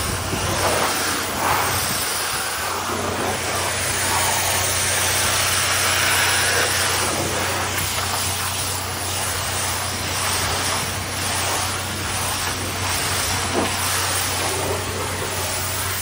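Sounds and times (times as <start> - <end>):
pressure washer spray hissing: 0.0 - 16.0.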